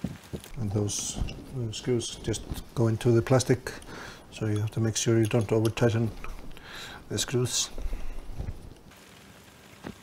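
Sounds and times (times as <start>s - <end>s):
soft handling knocks: 0.3s - 8.9s.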